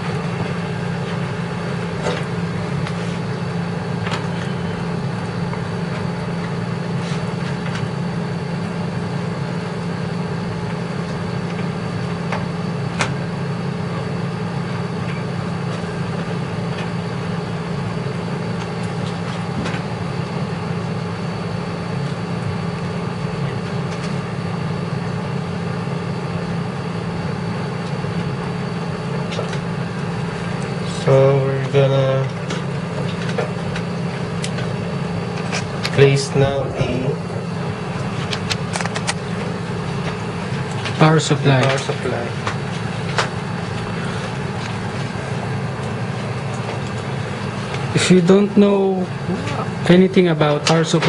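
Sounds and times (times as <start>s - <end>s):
low hum: 0.0s - 50.3s.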